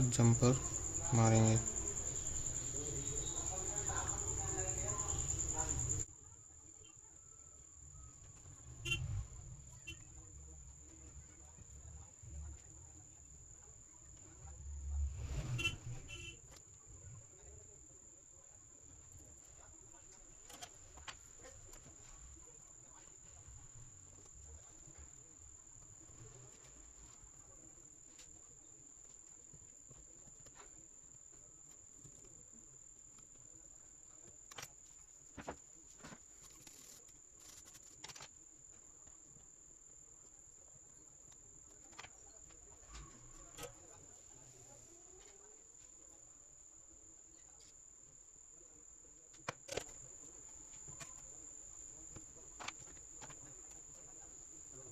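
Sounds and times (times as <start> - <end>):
faint high-pitched electronic whine: 0.0 - 54.9.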